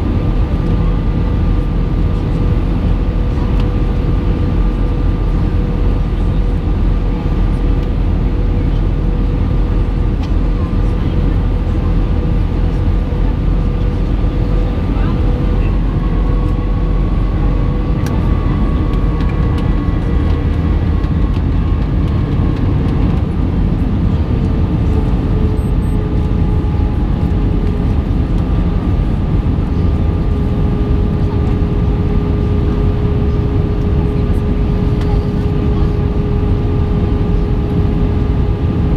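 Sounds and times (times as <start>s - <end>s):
airplane cabin rumble: 0.0s - 38.9s
jet engine whine: 0.0s - 38.9s.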